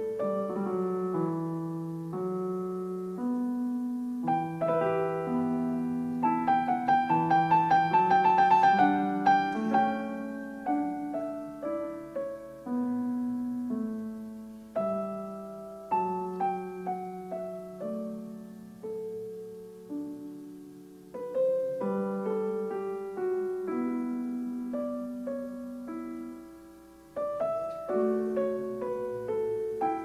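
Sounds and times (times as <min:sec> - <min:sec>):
solo piano: 0:00.0 - 0:30.0.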